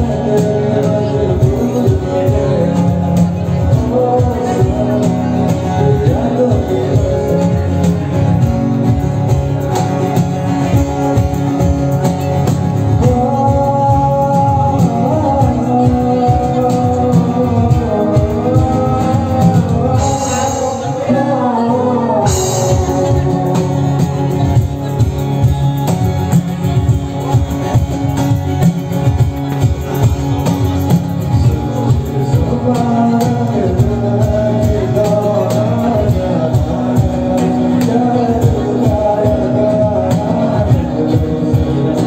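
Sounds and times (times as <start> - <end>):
person singing: 0.0 - 8.8, 12.2 - 26.0, 29.9 - 42.0
percussion: 0.0 - 42.0
strummed acoustic guitar: 0.0 - 42.0.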